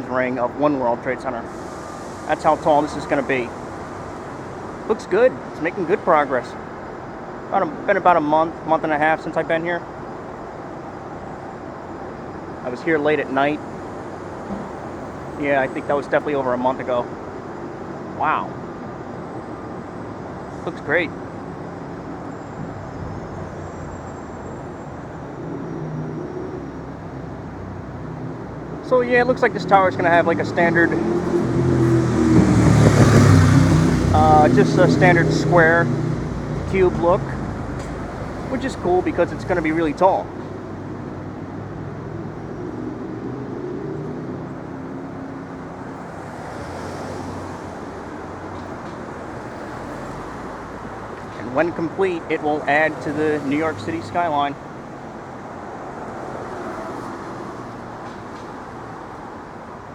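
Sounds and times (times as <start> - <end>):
faint engine hum: 0.0 - 56.0
city traffic rumble: 0.0 - 59.9.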